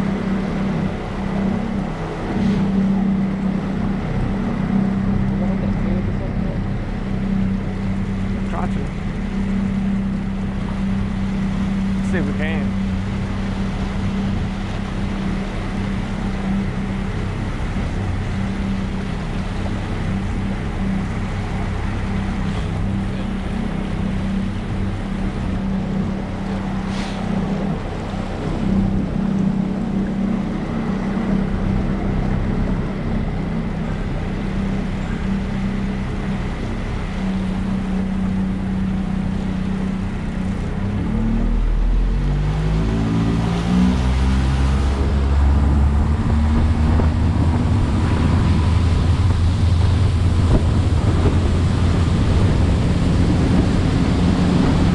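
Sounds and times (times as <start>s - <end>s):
engine humming: 0.0s - 54.9s.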